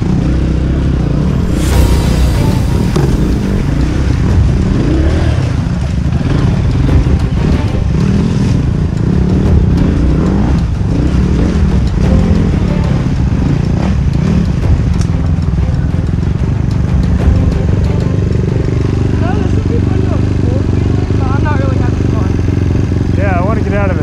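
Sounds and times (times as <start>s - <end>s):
dirt bike engine: 0.0s - 24.0s.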